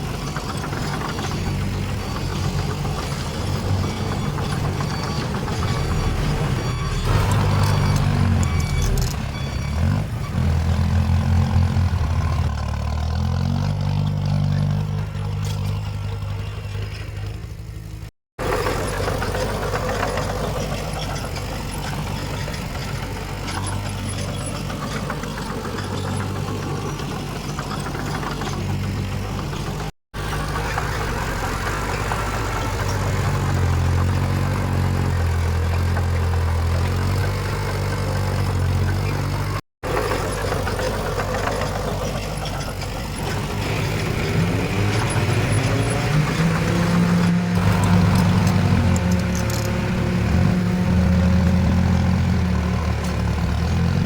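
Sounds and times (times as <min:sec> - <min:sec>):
diesel earthmoving machinery: 0:00.0 - 0:54.0.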